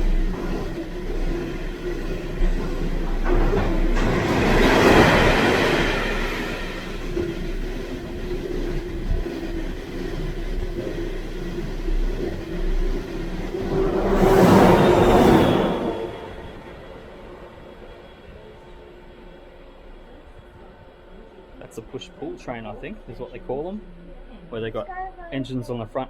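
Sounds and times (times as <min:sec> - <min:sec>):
freight train wheels rumbling on rails: 0:00.0 - 0:24.4.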